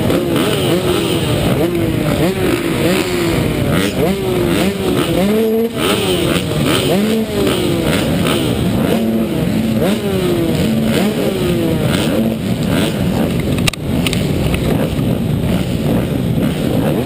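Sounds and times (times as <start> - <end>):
two-stroke motorbikes revving: 0.0 - 17.0.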